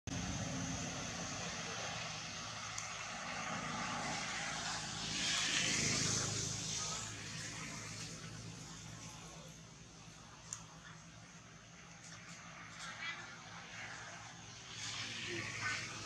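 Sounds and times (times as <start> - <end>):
distant vehicle engine drone: 0.1 - 16.0.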